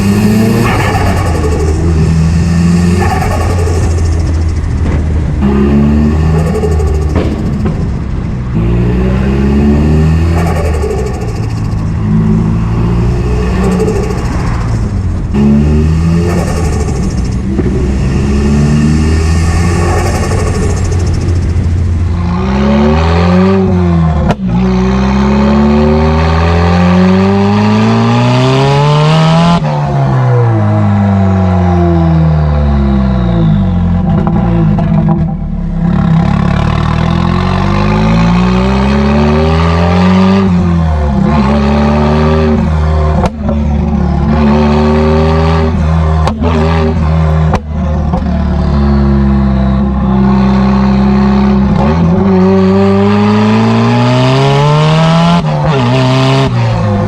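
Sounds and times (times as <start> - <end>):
car engine revving hard: 0.0 - 29.8, 35.8 - 43.3, 44.1 - 57.0.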